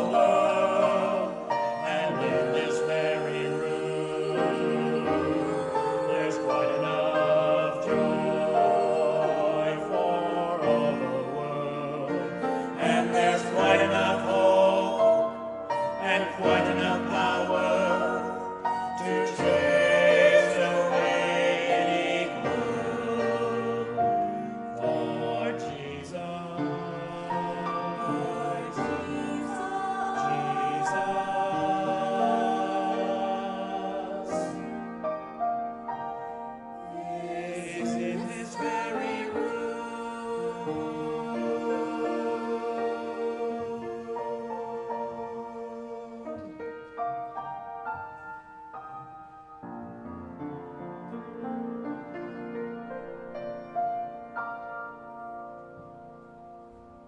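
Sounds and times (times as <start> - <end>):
choir singing a hymn in parts: 0.0 - 48.6.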